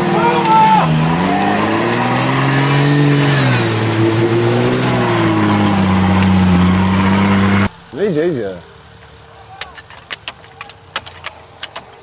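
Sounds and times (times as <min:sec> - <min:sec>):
off-road vehicle engine revving: 0:00.0 - 0:09.8.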